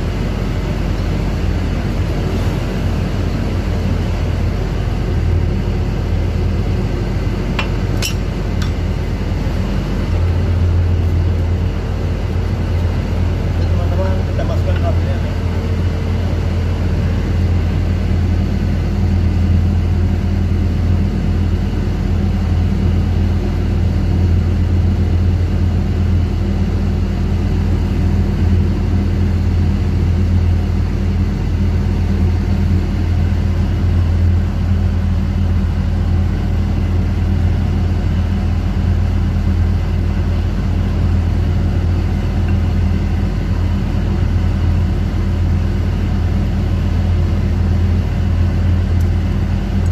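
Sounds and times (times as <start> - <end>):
boat machinery droning: 0.0 - 49.9.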